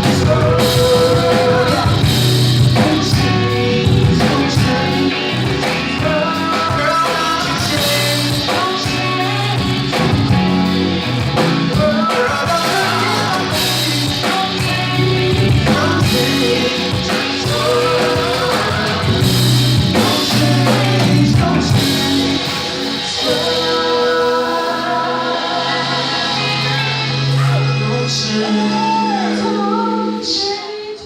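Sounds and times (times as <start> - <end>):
live soul band playing: 0.0 - 31.0
person singing: 0.0 - 31.0.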